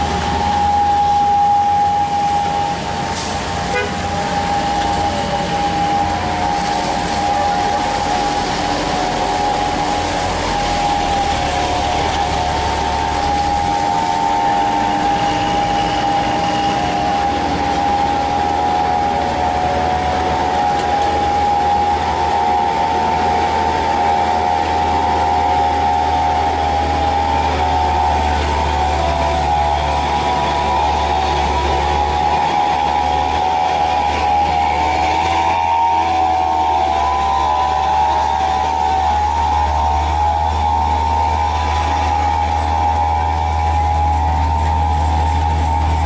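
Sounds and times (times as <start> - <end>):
diesel truck engine under load: 0.0 - 46.0.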